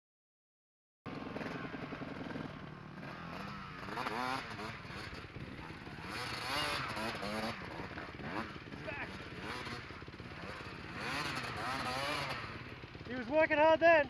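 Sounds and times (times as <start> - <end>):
dirt bike engine revving: 1.1 - 14.0.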